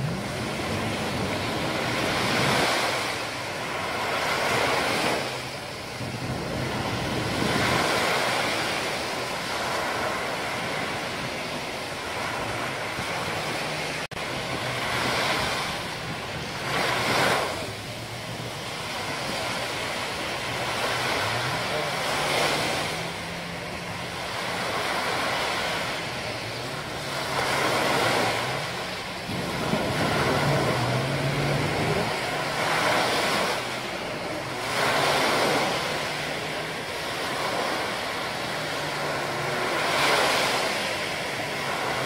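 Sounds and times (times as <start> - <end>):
low motor hum: 0.0 - 42.0
waves breaking on beach: 0.0 - 42.0.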